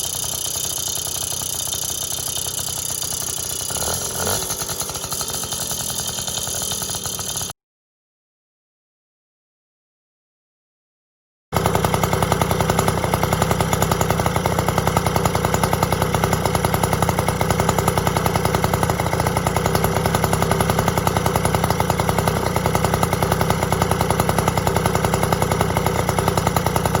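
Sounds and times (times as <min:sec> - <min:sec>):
moped engine running: 0:00.0 - 0:07.6, 0:11.6 - 0:27.0.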